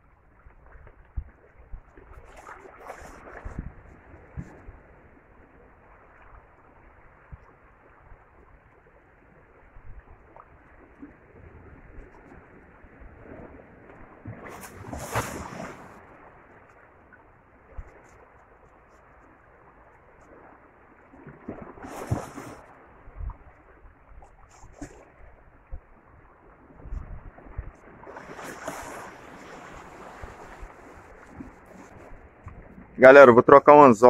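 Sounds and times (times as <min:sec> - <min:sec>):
waves lapping against rocks: 0:00.1 - 0:34.0
surges of rushing water: 0:02.0 - 0:34.0.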